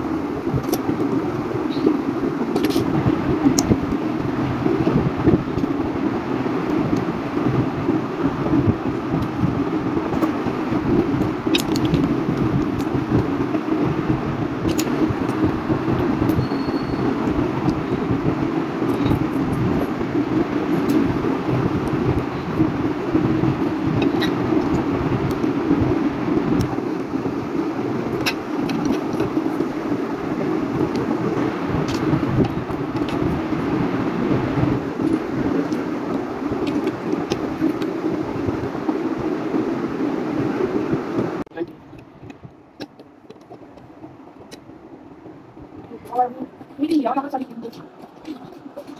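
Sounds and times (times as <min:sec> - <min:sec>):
low rumbling hum: 0:00.0 - 0:48.9.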